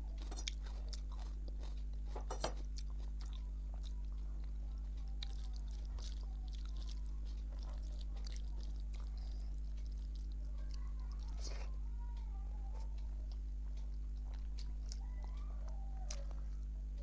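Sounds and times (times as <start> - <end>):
low electrical hum: 0.0 - 17.0
chewing and wet mouth clicks: 0.1 - 17.0.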